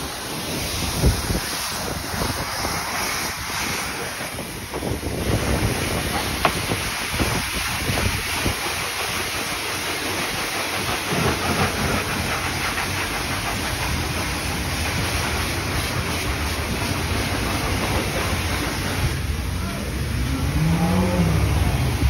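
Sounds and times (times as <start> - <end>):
high-pressure water spray hissing: 0.0 - 22.0.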